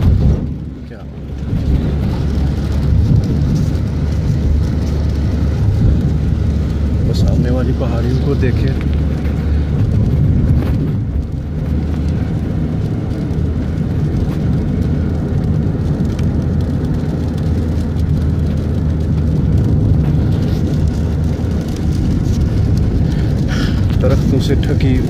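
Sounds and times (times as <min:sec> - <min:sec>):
heavy rain: 0:00.0 - 0:25.0
vehicle rumble from inside cabin: 0:00.0 - 0:25.0.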